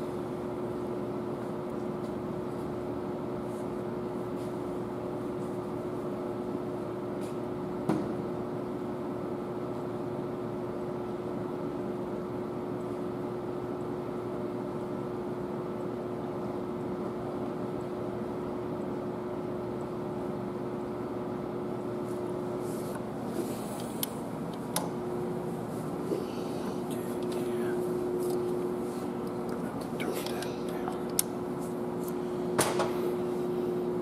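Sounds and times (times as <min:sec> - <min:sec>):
workshop machine hum: 0:00.0 - 0:34.0.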